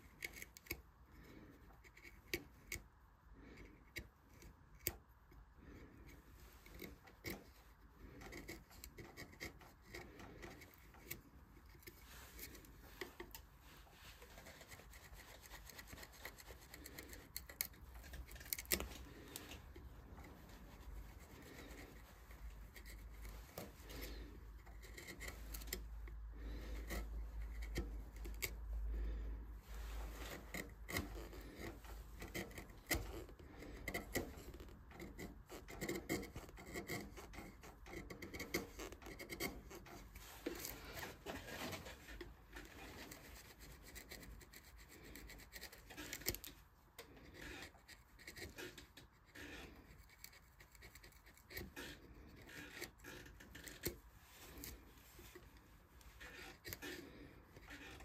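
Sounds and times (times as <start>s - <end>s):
carving tools scraping wood: 0.0s - 58.0s.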